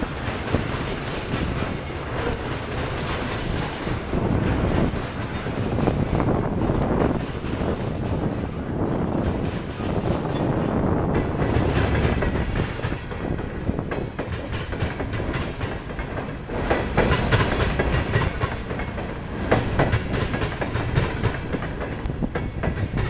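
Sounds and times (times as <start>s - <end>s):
freight cars rumbling on rails: 0.0s - 23.0s
wheels clanking over rail joints: 0.0s - 23.0s.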